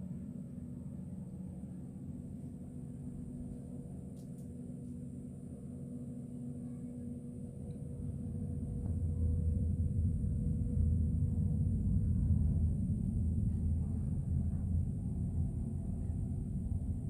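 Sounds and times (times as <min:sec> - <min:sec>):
distant rocket engine rumble: 0:00.0 - 0:17.0.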